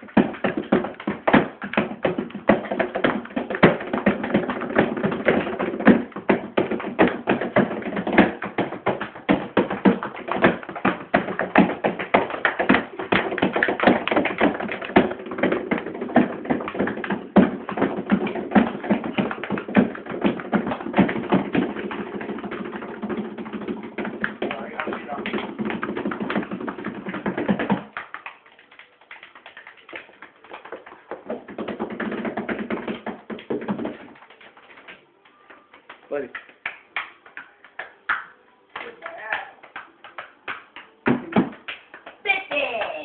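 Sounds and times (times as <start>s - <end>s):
hands slapping and tapping: 0.0s - 43.0s.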